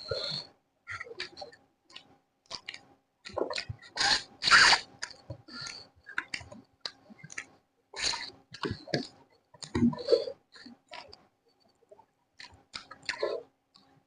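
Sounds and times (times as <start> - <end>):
chewing with mouth clicks: 1.2 - 14.0.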